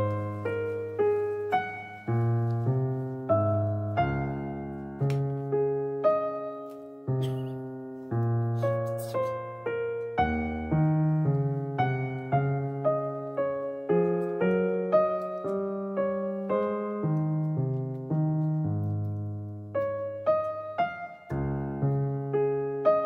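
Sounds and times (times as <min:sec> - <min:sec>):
piano melody: 0:00.0 - 0:23.0.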